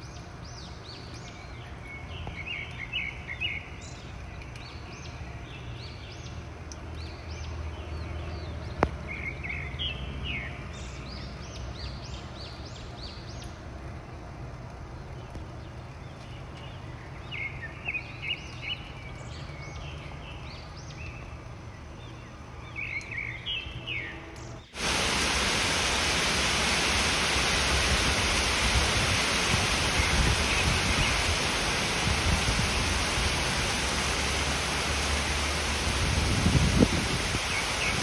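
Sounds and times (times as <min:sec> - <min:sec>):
heavy rain on leafy trees: 0:00.0 - 0:38.0.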